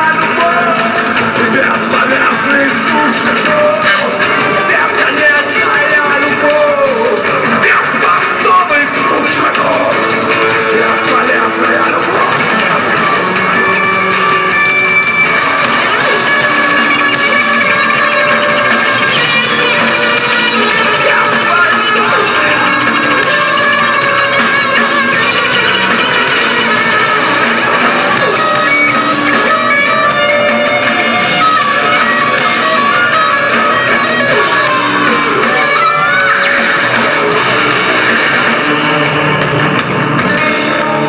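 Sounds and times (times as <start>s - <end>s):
guitar music: 0.0s - 41.0s.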